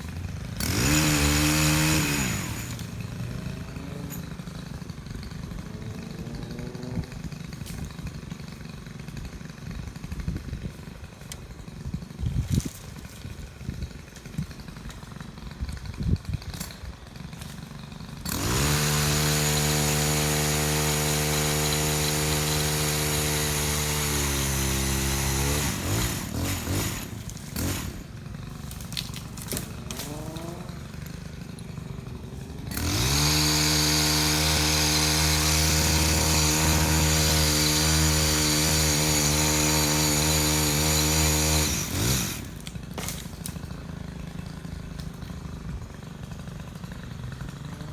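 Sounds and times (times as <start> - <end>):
chainsaw revving and idling: 0.0 - 47.9.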